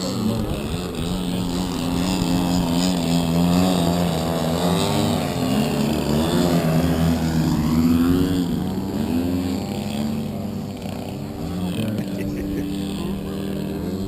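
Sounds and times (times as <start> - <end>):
model airplane engines droning: 0.0 - 14.0.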